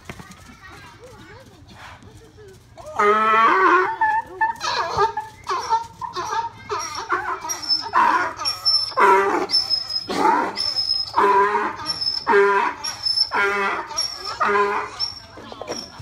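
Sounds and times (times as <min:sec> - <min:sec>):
donkey braying: 0:02.8 - 0:15.8.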